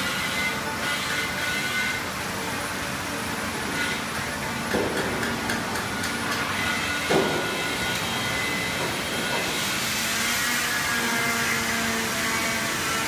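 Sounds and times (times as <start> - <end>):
machine drone and hiss: 0.0 - 13.0.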